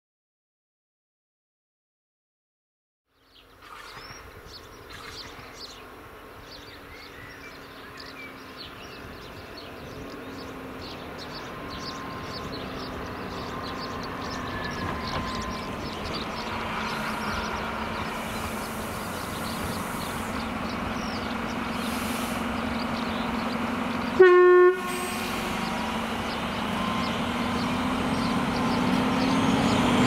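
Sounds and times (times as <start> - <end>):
birds chirping: 3.1 - 30.0
diesel railcar approaching: 3.1 - 30.0.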